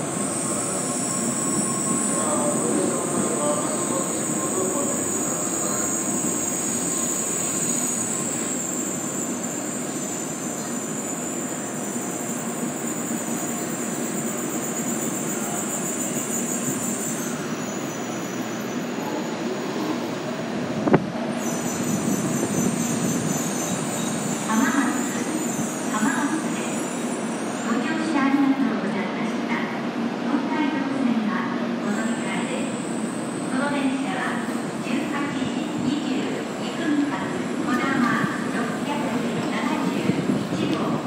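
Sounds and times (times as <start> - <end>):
train wheels rumbling on rail: 0.0 - 30.3, 31.1 - 41.0.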